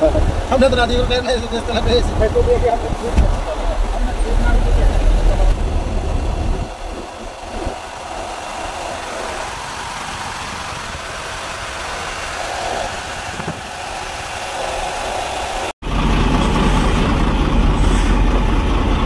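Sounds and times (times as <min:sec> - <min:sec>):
diesel engine idling: 0:00.0 - 0:19.0
air conditioner blower rushing: 0:00.3 - 0:19.0.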